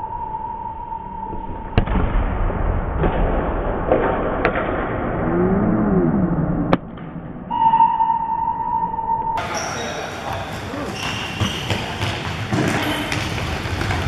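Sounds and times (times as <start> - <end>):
reverberant gym noise: 0.0 - 14.0.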